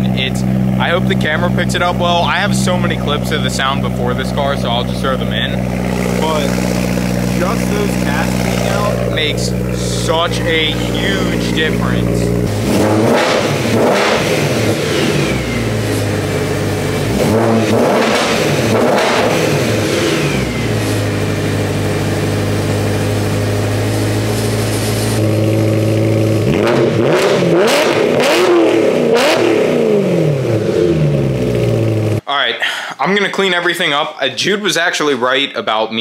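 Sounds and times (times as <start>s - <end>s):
loud car engine revving: 0.0s - 32.2s.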